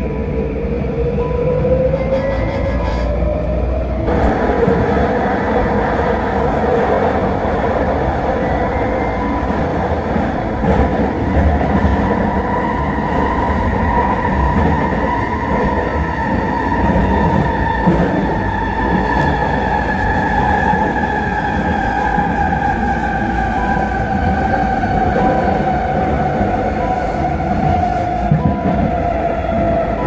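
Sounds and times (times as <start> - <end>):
rail and wheel rumble: 0.0 - 30.0.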